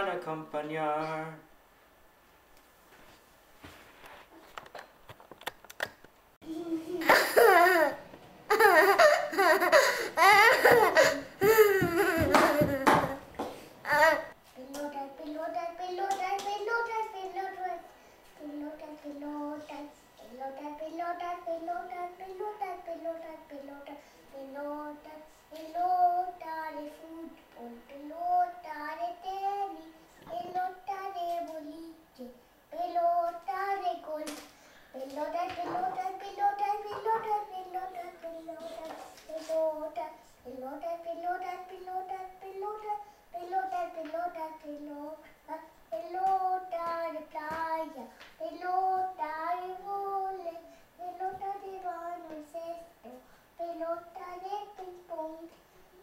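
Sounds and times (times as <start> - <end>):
boy singing: 8.6 - 13.2, 13.8 - 55.6.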